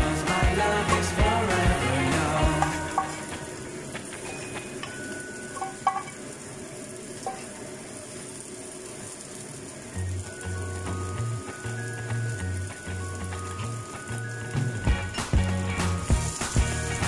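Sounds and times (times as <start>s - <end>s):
wok sizzling: 0.0s - 17.0s.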